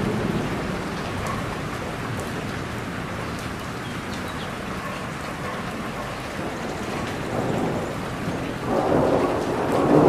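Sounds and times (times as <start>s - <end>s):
rain falling on leaves: 0.0s - 10.0s.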